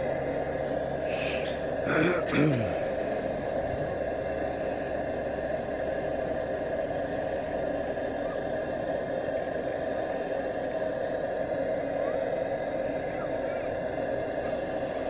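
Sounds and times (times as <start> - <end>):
blowtorch roaring: 0.0 - 15.0.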